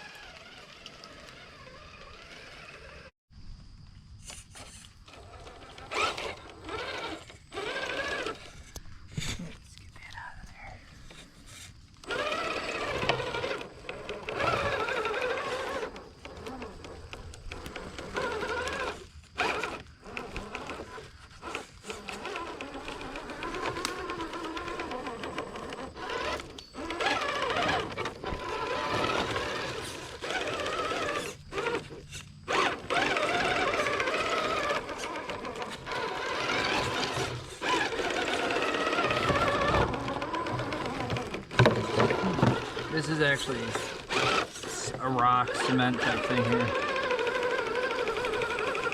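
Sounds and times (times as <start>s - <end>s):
toy truck electric motor whining: 0.0s - 3.1s, 4.3s - 9.3s, 11.0s - 48.9s.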